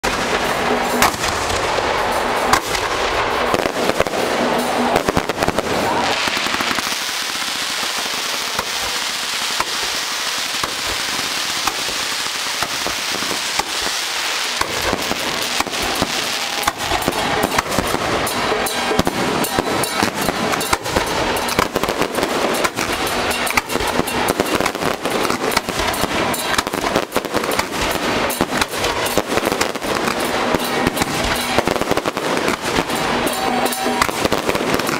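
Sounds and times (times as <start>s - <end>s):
firecrackers crackling: 0.0s - 34.9s
fireworks hissing spray: 0.1s - 34.9s.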